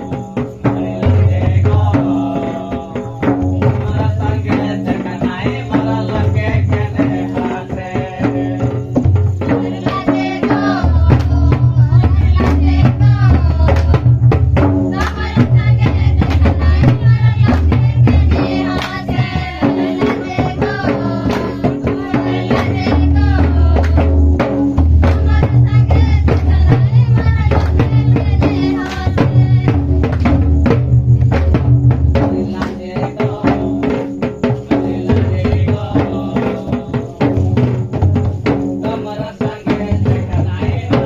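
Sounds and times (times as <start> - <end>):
barrel drums beating quick rhythm: 0.0 - 41.0
voices singing folk song: 0.0 - 41.0.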